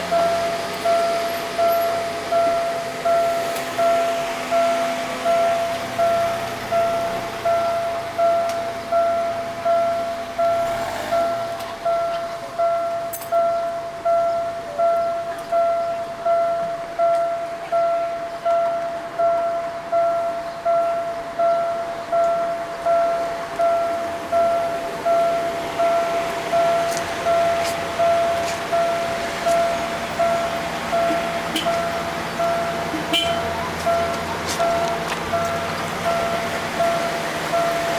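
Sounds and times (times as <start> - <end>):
level crossing warning bell: 0.0 - 37.9
traffic noise: 0.0 - 37.9.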